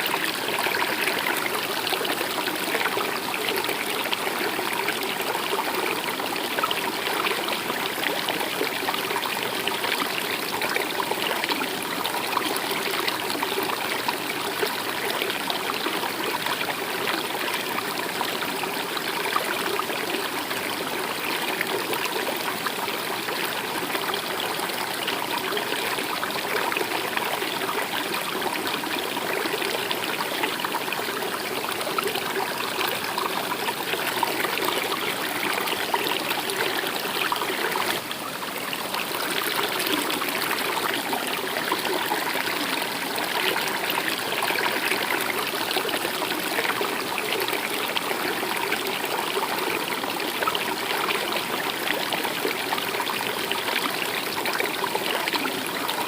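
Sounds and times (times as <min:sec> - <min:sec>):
river water running and trickling: 0:00.0 - 0:56.0.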